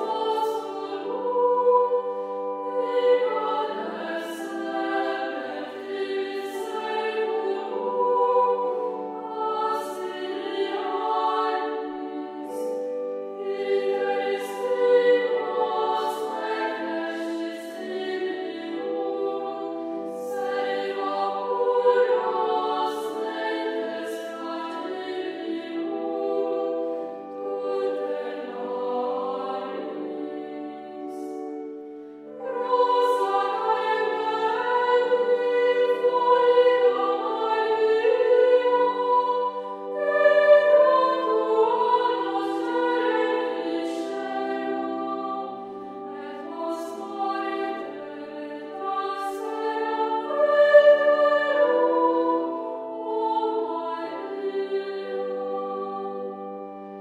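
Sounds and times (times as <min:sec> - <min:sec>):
choir singing slow chords: 0:00.0 - 0:57.0.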